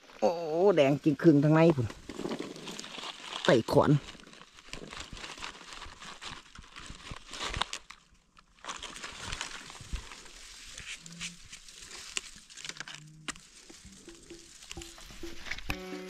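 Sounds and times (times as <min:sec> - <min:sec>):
dry leaves rustling: 0:00.0 - 0:16.0.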